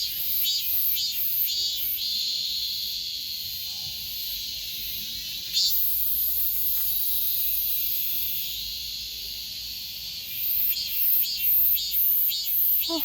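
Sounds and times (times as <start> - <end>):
cicadas buzzing: 0.0 - 13.0
loud pulsing insect call: 0.0 - 13.0.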